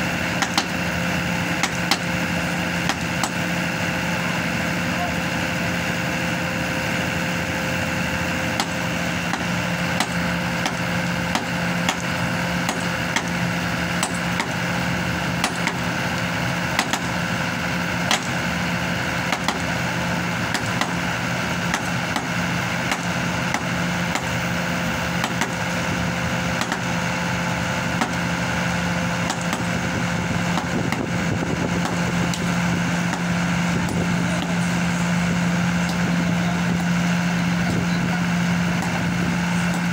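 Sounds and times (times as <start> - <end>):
hydraulic machine humming: 0.0 - 39.9.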